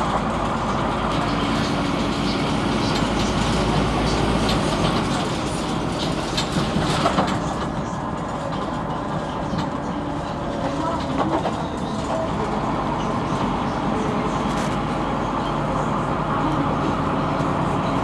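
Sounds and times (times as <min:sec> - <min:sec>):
bus body rattling: 0:00.0 - 0:18.0
bus engine and road noise: 0:00.0 - 0:18.0.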